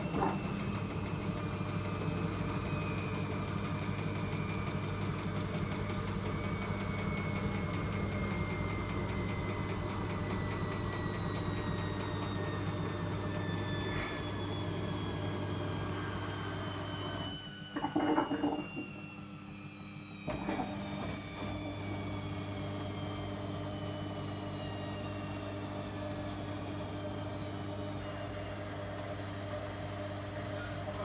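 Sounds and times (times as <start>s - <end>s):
washing machine running: 0.0s - 31.0s.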